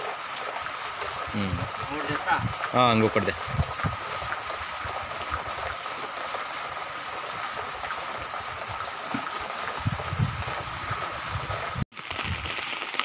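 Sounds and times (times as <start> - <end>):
rain falling on wet ground: 0.0 - 13.0.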